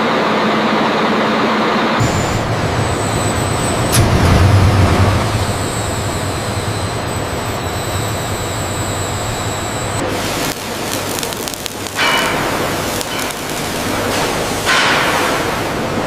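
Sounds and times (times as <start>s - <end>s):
turbine engine whine: 0.0s - 16.0s.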